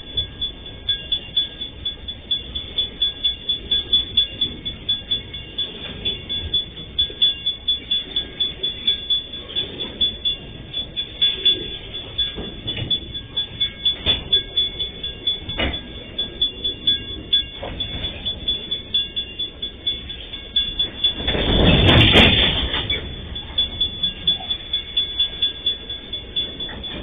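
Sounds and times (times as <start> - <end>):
wheels clacking over rail joints: 2.3 - 27.0.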